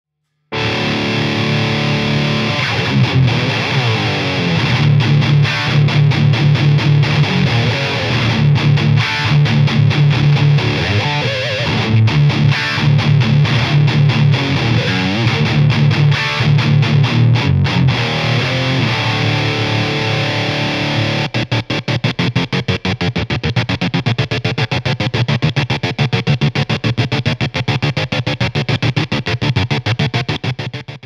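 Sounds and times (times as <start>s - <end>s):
distorted electric guitar riff: 0.5s - 31.0s.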